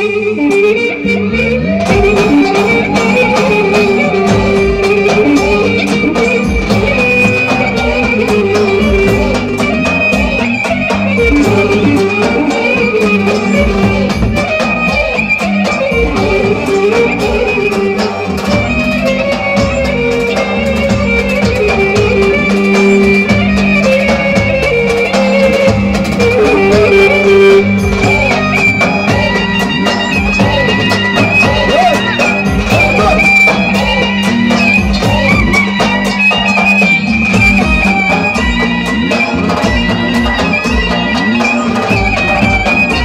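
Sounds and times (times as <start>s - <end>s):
clarinet melody: 0.0s - 43.0s
sustained backing tones: 0.0s - 43.0s
steady drum beat: 1.7s - 43.0s.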